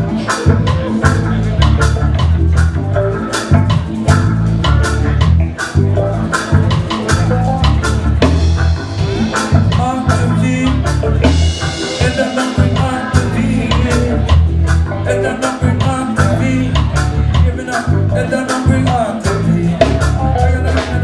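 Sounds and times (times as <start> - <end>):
reggae band playing: 0.0 - 21.0.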